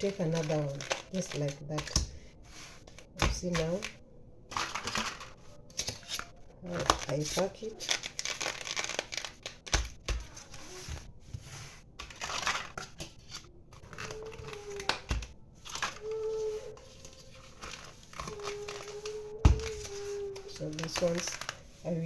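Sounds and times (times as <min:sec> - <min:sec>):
plastic packaging crinkling: 0:00.0 - 0:11.2, 0:11.8 - 0:22.0.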